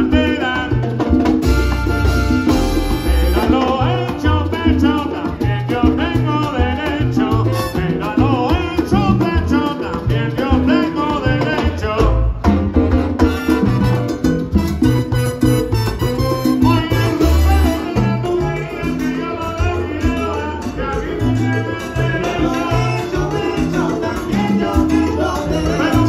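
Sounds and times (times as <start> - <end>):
congas: 0.0 - 26.0
salsa band playing: 0.0 - 26.0
upright bass: 0.0 - 26.0.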